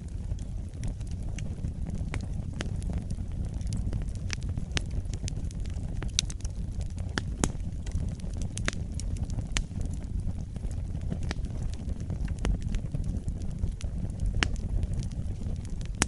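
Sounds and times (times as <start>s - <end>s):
low rumble of fire flames: 0.0s - 16.0s
wood fire crackles and pops: 0.0s - 16.0s.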